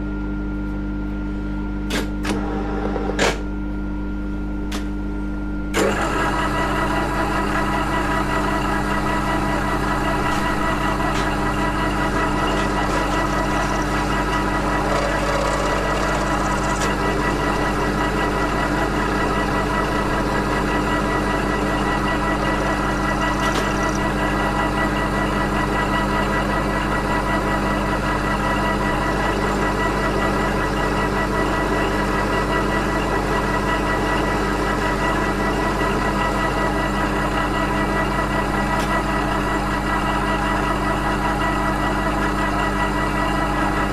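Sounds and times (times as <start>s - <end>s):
milling machine motor hum: 1.9s - 3.4s, 5.7s - 43.9s.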